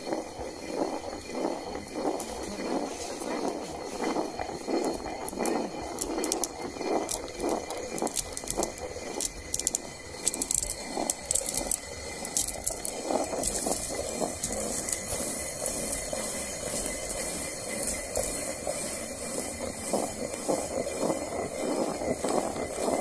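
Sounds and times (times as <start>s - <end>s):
stone quern grinding: 0.5s - 23.0s
grain cracking clicks: 3.2s - 23.0s.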